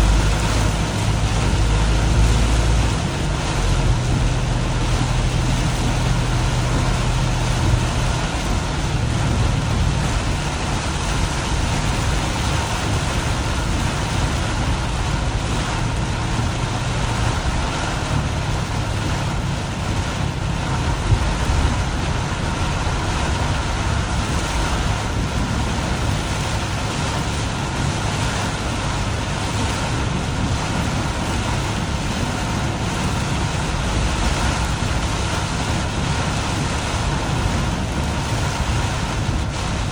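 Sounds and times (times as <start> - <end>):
low engine hum: 0.0 - 39.9
rain and tyres on wet road: 0.0 - 39.9.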